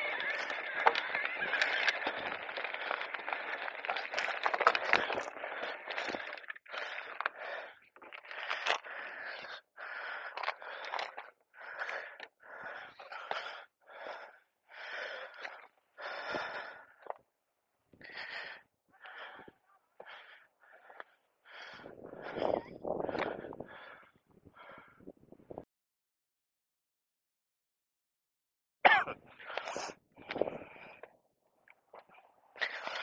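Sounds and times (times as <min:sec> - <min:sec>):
person breathing heavily: 0:00.0 - 0:17.2, 0:18.0 - 0:25.2, 0:29.3 - 0:31.1, 0:32.0 - 0:33.0.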